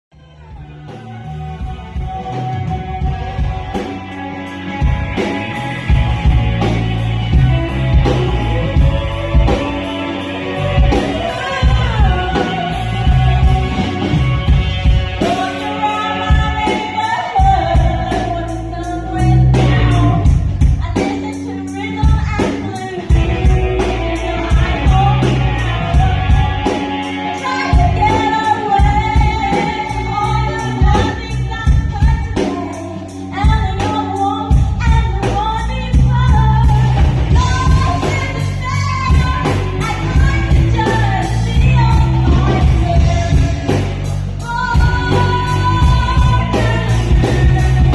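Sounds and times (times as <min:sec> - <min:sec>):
rock band playing live: 0:00.1 - 0:47.9
lead vocal singing: 0:00.2 - 0:47.9.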